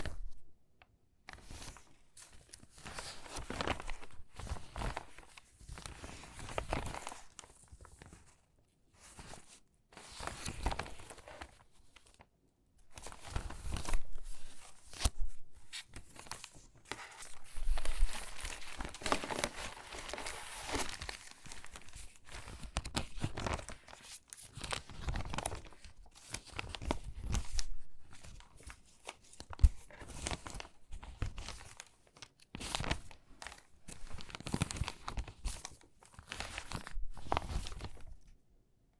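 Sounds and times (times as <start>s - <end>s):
paper pages crinkling and rustling: 0.0s - 38.4s.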